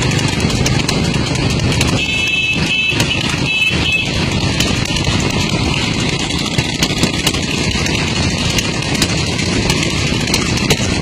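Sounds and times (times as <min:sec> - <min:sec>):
vehicle road and wind noise: 0:00.0 - 0:11.0.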